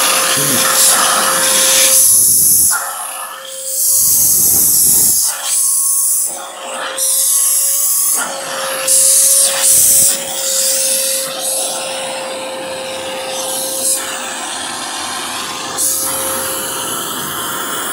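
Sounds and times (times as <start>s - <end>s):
vacuum cleaner running: 0.0s - 17.9s.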